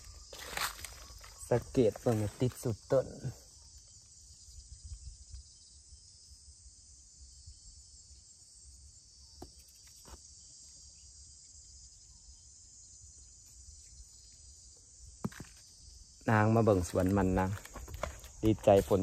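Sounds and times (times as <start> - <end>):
chorus of field insects: 0.0 - 19.0.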